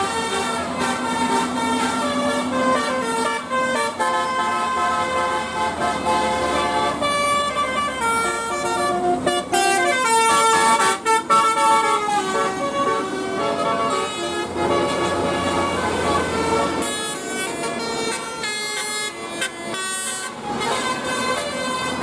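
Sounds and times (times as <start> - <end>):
multi-tone bus horn tune: 0.0 - 22.0.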